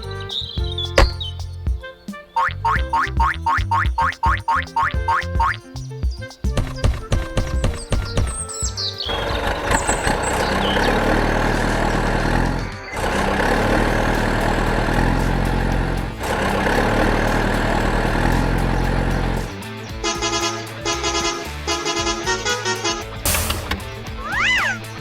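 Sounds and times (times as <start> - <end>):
construction vehicle engine running: 2.6 - 25.0.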